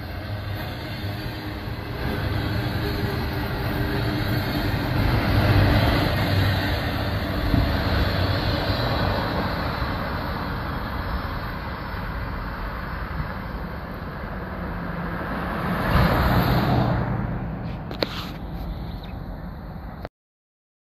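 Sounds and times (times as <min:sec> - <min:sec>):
car passing on road: 0:00.0 - 0:19.6
freight train rolling past: 0:00.0 - 0:19.9.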